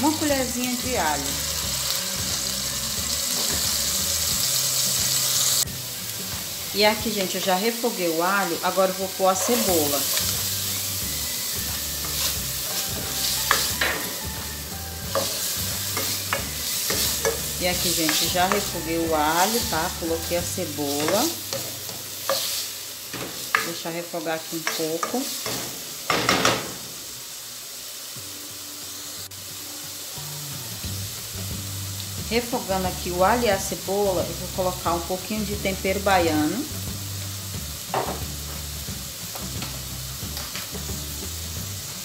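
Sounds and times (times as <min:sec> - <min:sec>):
onion sizzling in oil: 0:00.0 - 0:42.0
soft background music: 0:00.0 - 0:42.0.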